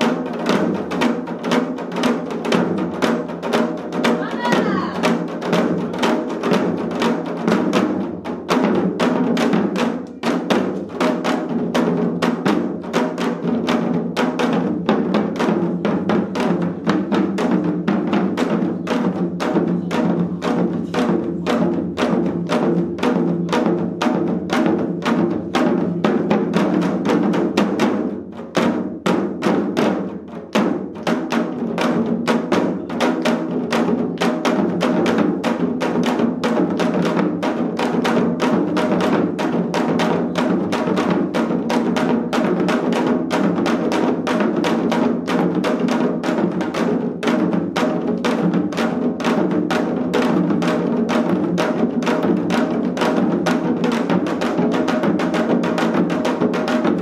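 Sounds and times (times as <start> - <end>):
hourglass drums playing fast rhythm: 0.0 - 57.0.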